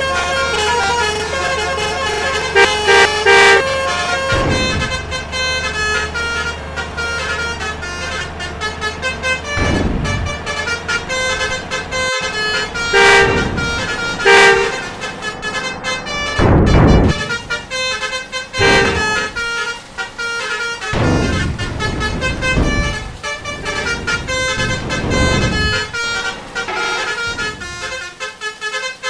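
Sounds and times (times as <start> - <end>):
musical trumpet horns: 0.0 - 29.0
traffic passing: 0.0 - 29.0.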